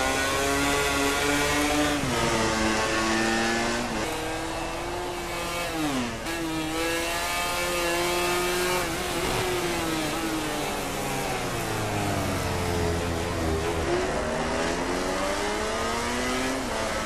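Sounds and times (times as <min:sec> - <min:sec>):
racing motorcycle engine revving: 0:00.0 - 0:17.0.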